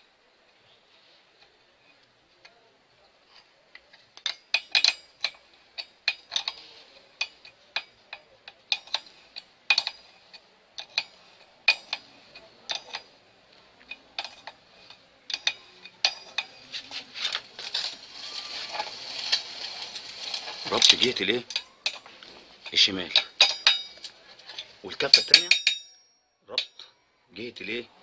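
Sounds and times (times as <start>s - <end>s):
metallic clicks of bicycle pedal: 3.8s - 26.9s.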